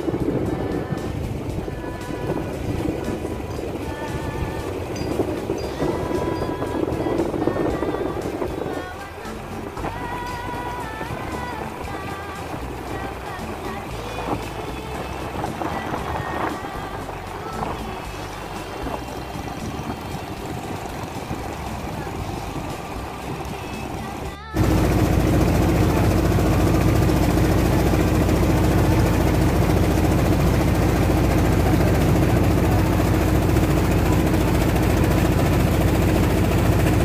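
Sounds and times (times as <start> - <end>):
boat engine humming: 0.0 - 37.0.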